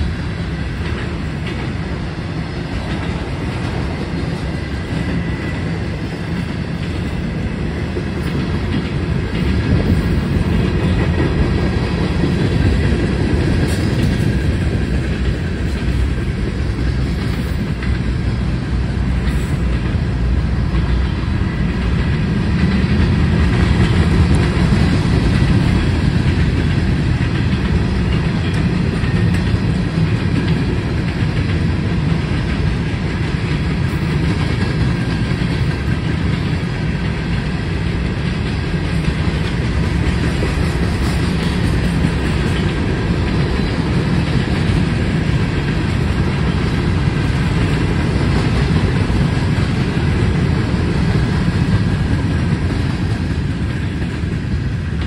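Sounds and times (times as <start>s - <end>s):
train cars rumbling past: 0.0s - 55.0s
wheels clattering on rails: 0.0s - 55.0s.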